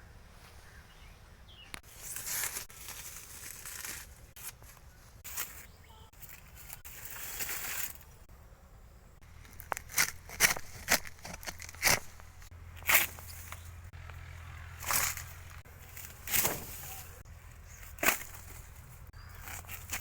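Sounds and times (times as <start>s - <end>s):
dry leaves rustling and tearing: 1.8s - 8.3s, 9.3s - 20.0s.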